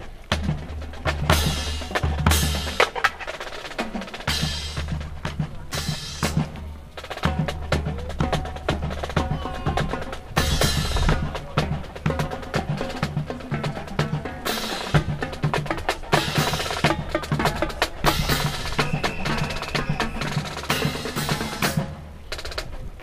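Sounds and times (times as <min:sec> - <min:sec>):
drum-heavy percussion: 0:00.0 - 0:23.0.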